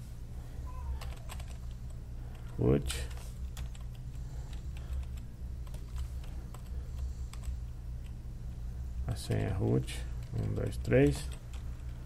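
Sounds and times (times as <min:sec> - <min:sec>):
low electrical hum: 0:00.0 - 0:12.0
keyboard typing: 0:01.0 - 0:08.2, 0:09.2 - 0:12.0.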